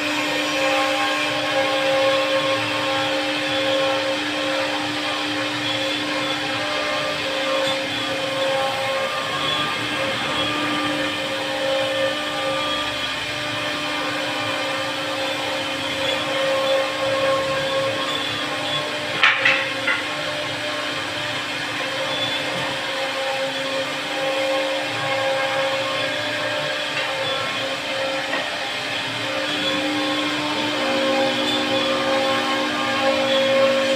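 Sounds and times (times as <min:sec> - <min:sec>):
wood router motor whine: 0:00.0 - 0:33.9.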